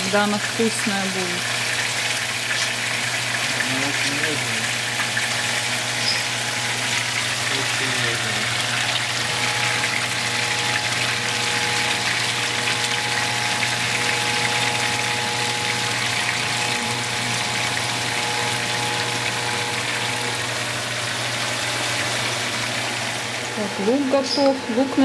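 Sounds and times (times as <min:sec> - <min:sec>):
fish sizzling in hot oil: 0:00.0 - 0:24.8
faint steady hum: 0:00.0 - 0:25.0.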